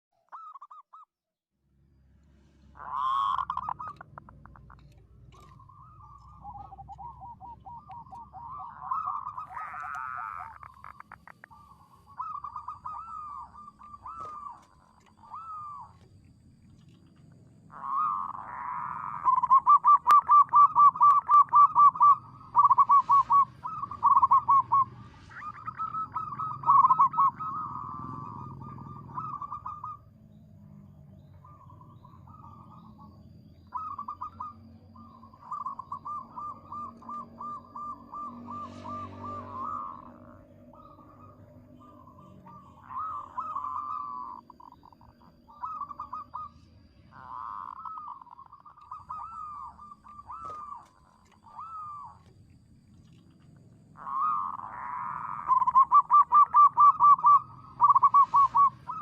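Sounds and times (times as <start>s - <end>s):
doves cooing rapidly: 2.8s - 59.0s.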